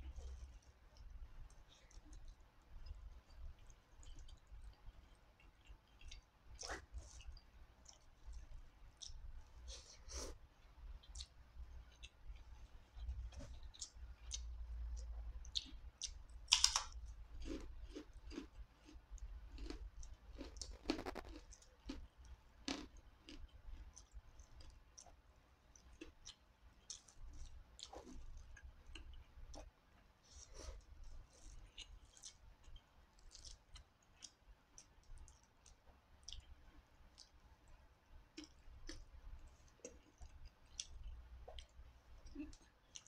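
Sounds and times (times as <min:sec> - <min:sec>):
chewing with wet mouth clicks: 0:00.1 - 0:09.5, 0:11.0 - 0:29.7, 0:31.0 - 0:43.0.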